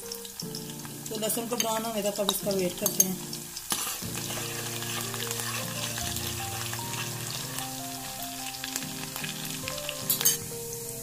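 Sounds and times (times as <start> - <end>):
oil popping: 0.0 - 10.5
garlic sizzling in oil: 0.0 - 11.0
soft melody: 0.0 - 11.0.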